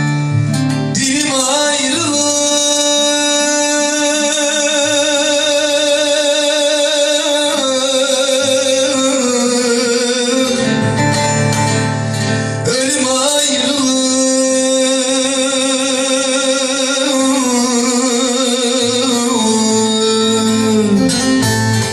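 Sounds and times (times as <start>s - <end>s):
lute and guitar accompaniment: 0.0s - 21.9s.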